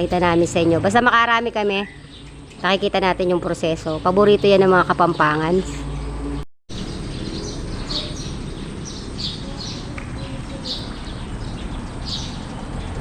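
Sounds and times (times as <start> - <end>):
birds chirping: 0.0 - 13.0
outdoor background hiss: 0.0 - 13.0.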